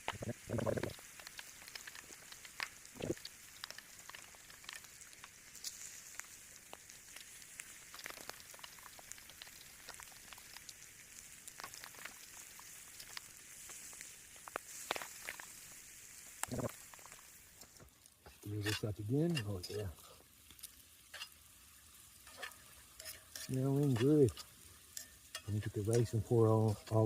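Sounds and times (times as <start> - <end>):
chicken sizzling in a pot: 0.0 - 27.0.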